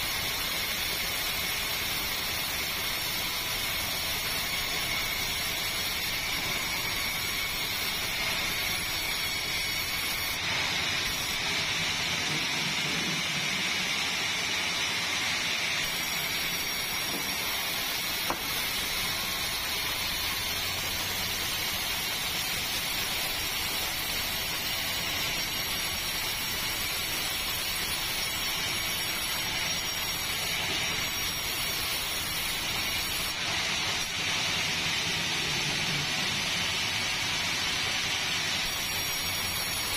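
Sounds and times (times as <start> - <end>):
high machine whine: 0.0 - 39.9
sawmill machinery hissing: 0.0 - 39.9.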